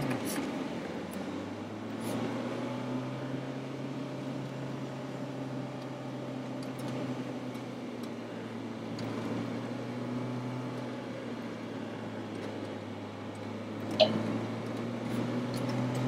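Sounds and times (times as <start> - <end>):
vehicle engine and road drone: 0.0 - 16.0.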